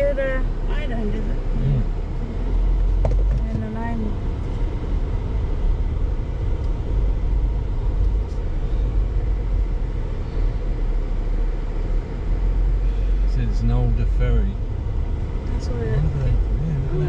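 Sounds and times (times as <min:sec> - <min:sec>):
car interior rumble: 0:00.0 - 0:17.0.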